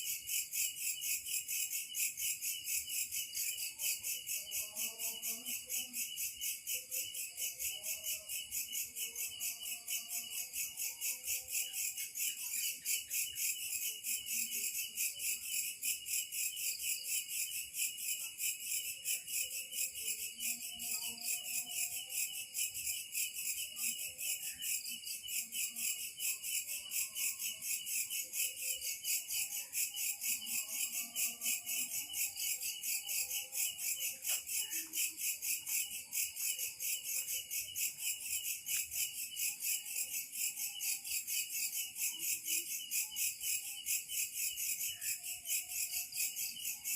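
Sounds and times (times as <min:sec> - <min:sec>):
insects trilling: 0:00.0 - 0:46.9.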